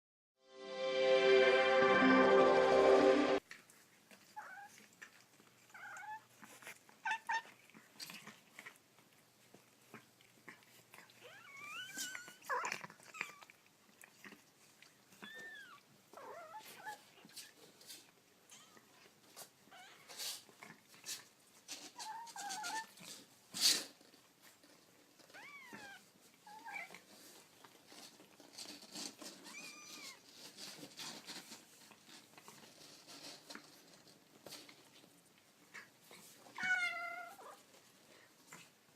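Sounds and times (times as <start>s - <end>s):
small clicks and rustles: 3.4s - 38.9s.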